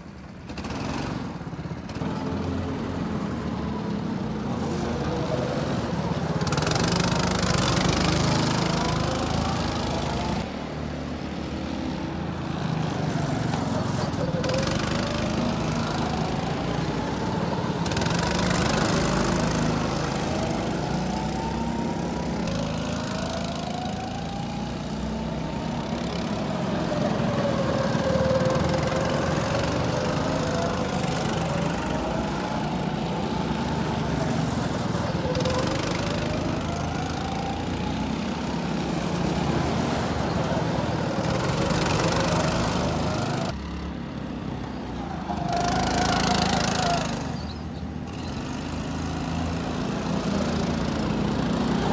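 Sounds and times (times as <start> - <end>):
go-kart engines revving: 0.0 - 51.9.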